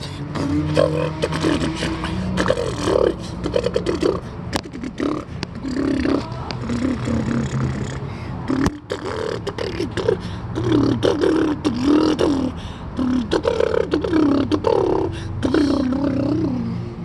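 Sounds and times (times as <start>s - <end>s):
person humming wordlessly: 0.0s - 16.8s
mouth clicks: 0.4s - 16.6s.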